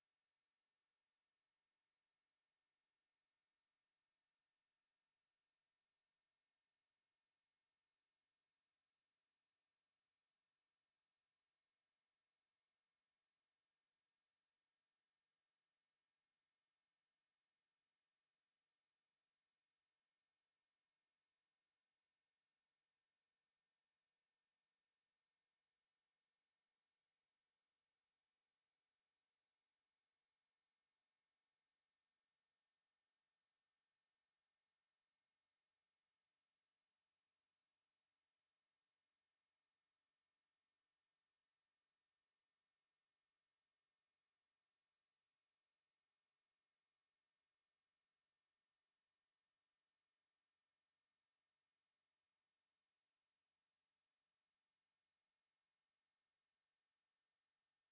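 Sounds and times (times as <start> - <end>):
high sine-wave test tone: 10.4 - 57.9.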